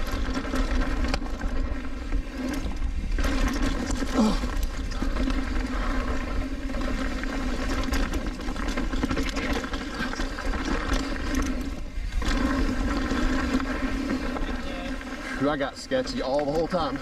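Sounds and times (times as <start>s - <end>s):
bike rattles and clicks: 0.0s - 17.0s
tyres rumbling on trail: 0.0s - 17.0s.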